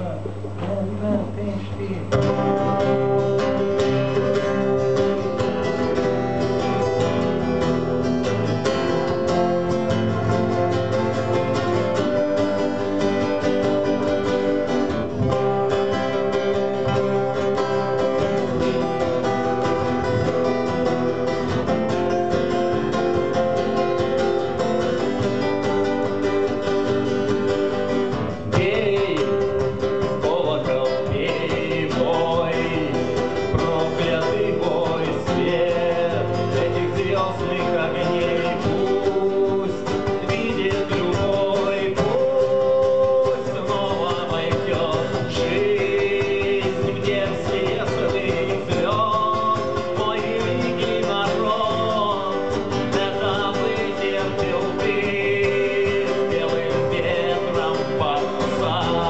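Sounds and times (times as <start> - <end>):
acoustic guitars playing: 0.0 - 59.0
man singing: 0.0 - 59.0.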